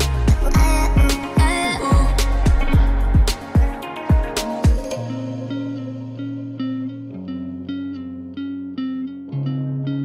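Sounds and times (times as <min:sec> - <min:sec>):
plucked string notes: 0:00.0 - 0:10.0.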